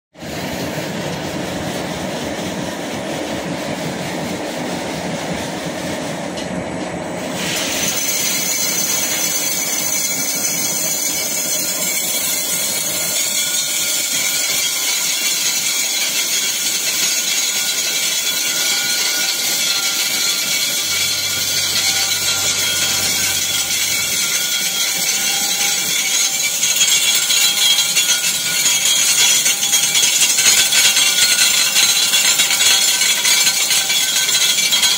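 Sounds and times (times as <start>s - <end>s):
conveyor machinery running: 0.2s - 34.9s.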